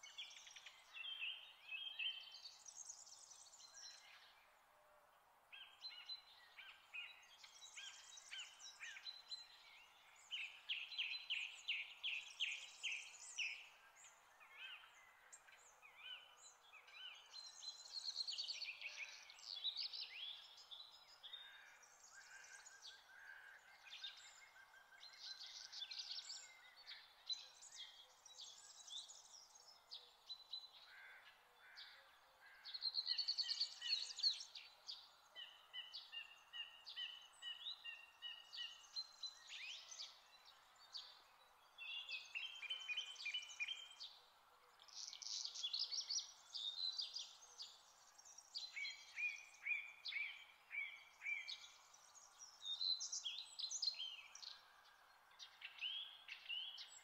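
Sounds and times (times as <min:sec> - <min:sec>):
songbirds chirping and warbling: 0:00.0 - 0:57.0.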